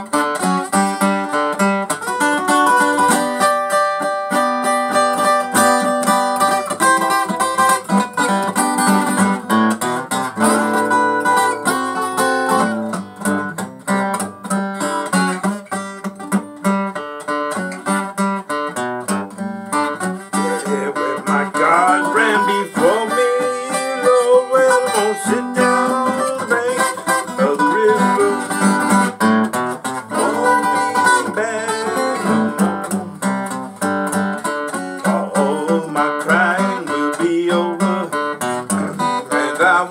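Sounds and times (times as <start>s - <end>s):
acoustic guitar playing blues: 0.0s - 39.9s.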